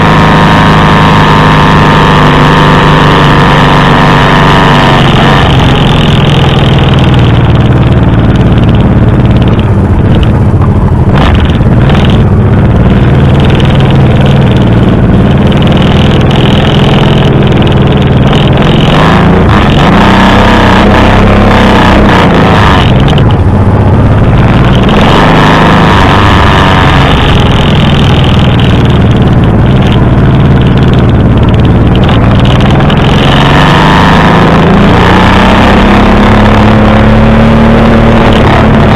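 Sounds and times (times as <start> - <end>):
motorcycle engine revving: 0.0 - 38.9
steady rushing noise: 0.0 - 38.9.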